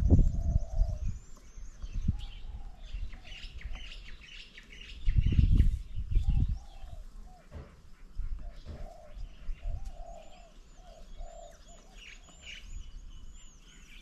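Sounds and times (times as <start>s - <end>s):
birds chirping and calling: 0.0s - 14.0s
low cooing bird call: 0.0s - 14.0s.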